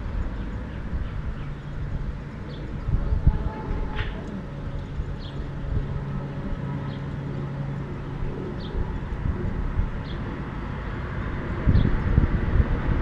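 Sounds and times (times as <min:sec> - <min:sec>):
low rumble: 0:00.0 - 0:13.0
steady low hum: 0:00.0 - 0:13.0.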